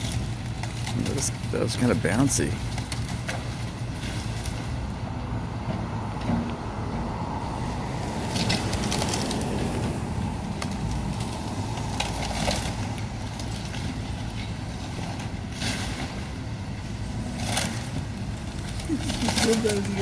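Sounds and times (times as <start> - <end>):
debris cracking and crunching: 0.0 - 4.9, 7.5 - 20.0
excavator diesel engine running: 0.0 - 20.0.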